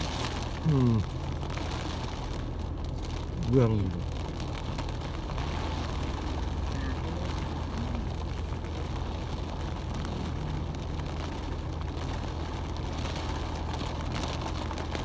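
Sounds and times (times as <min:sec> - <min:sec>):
car engine drone from cabin: 0:00.0 - 0:15.0
heavy rain on windshield: 0:00.0 - 0:15.0.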